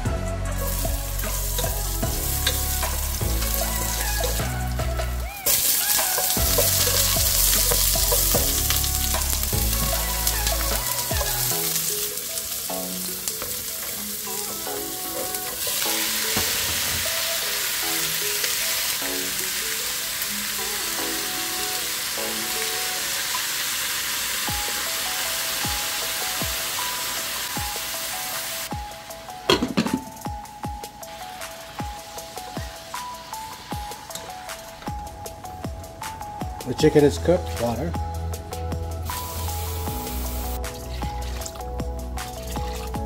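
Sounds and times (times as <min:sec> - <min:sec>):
food sizzling in hot oil: 0:00.6 - 0:35.5, 0:39.0 - 0:43.0.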